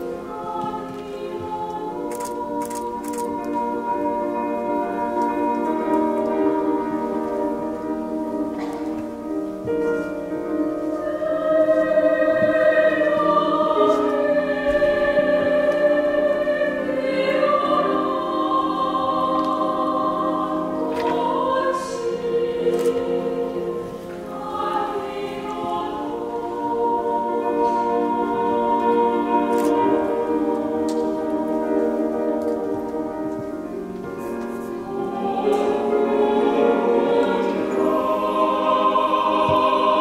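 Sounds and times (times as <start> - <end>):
choir singing held chords: 0.0 - 40.0
orchestra: 0.0 - 40.0
piano: 0.0 - 40.0.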